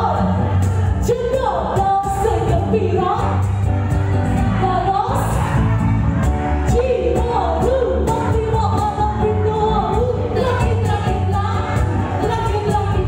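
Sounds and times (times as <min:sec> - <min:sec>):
live pop band playing: 0:00.0 - 0:13.0.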